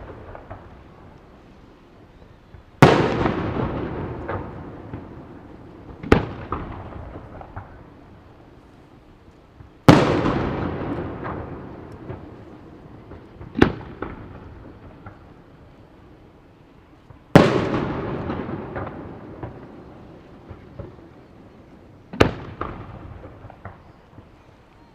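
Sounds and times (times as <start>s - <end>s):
fireworks booming: 0.0s - 1.1s, 2.5s - 8.3s, 9.6s - 15.7s, 16.9s - 24.4s
faint fireworks pops: 0.0s - 24.9s.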